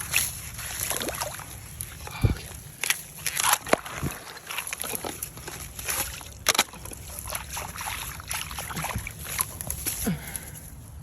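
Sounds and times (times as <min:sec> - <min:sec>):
footsteps crunching through wet snow: 0:00.0 - 0:11.0.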